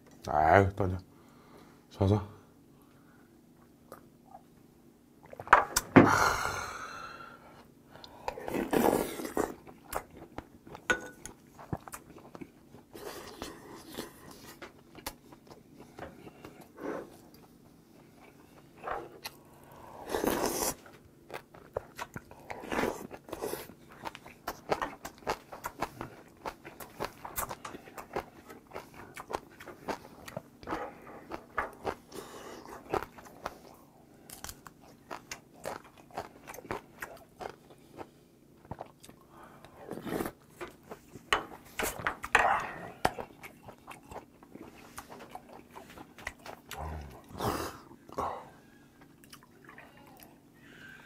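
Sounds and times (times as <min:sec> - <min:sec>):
chewing: 0:08.0 - 0:48.3, 0:49.0 - 0:50.4.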